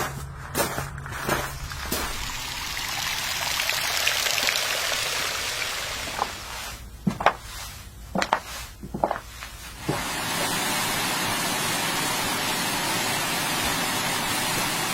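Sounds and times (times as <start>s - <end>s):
steady rushing hiss: 1.1s - 14.9s.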